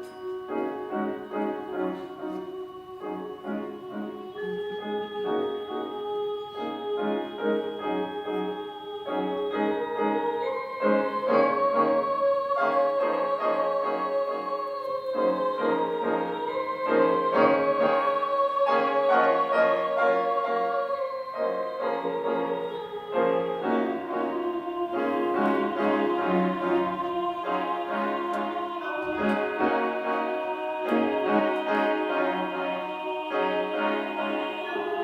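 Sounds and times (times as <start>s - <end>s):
instrumental keyboard music: 0.0s - 35.0s.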